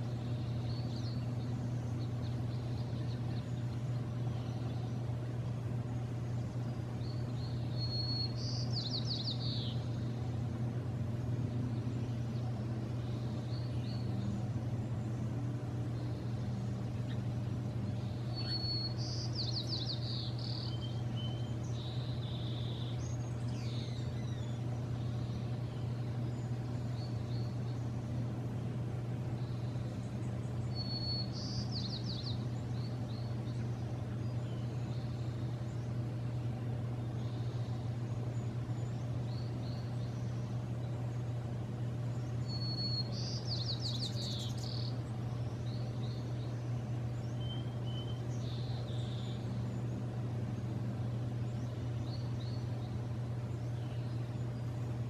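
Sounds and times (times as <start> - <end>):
songbird singing: 0.0 - 55.0
steady low hum: 0.0 - 55.0.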